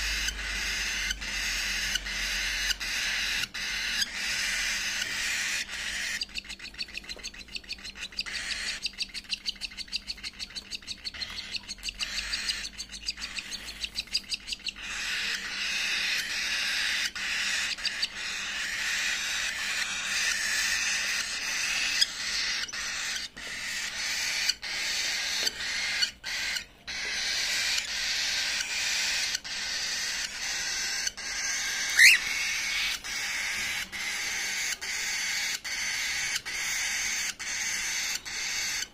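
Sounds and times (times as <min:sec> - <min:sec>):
chicks begging raspy calls: 0:00.0 - 0:38.9.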